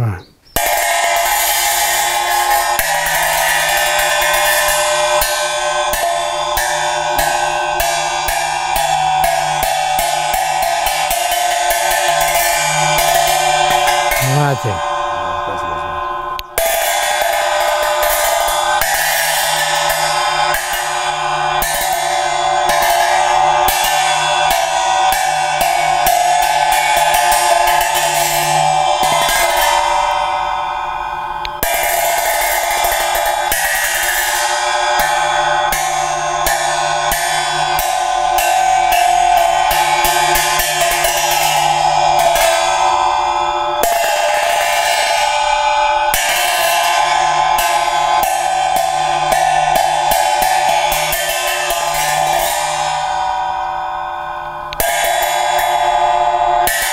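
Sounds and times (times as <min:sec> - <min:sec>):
cymbals clashing: 0:00.5 - 0:56.9.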